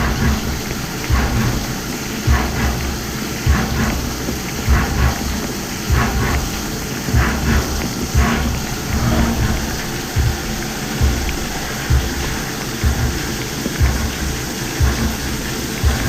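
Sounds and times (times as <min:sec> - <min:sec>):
milling machine rumble and swish: 0:00.0 - 0:16.0.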